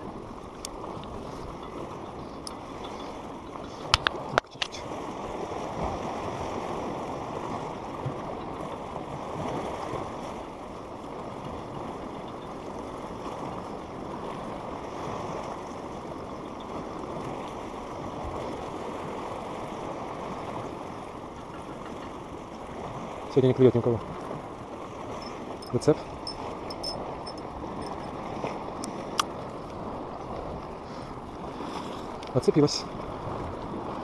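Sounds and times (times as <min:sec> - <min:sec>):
sea water washing against pier: 0:00.0 - 0:34.0.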